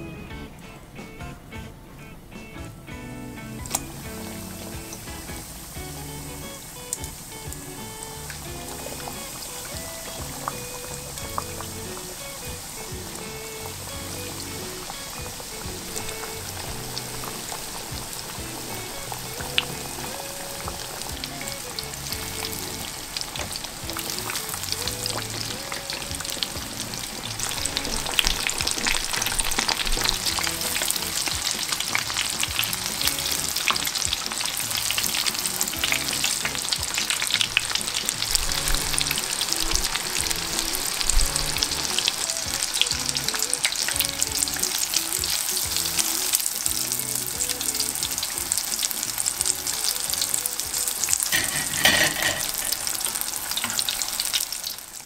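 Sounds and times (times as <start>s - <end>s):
cutlets deep-frying in oil: 3.6s - 55.0s.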